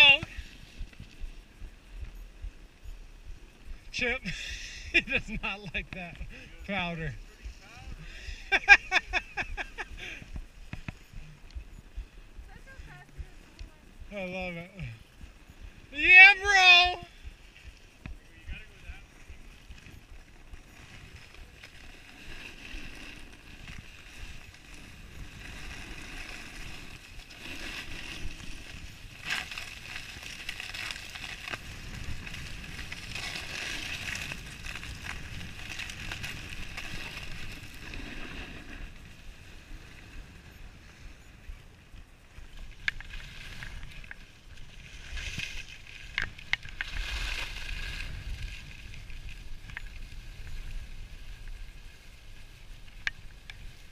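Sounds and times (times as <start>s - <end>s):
skis scraping on snow: 0.0s - 53.9s.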